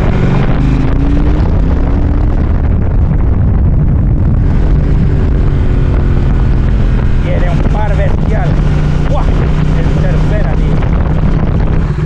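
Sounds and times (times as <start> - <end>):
motorcycle engine accelerating: 0.0 - 12.0
wind on microphone: 0.0 - 12.0.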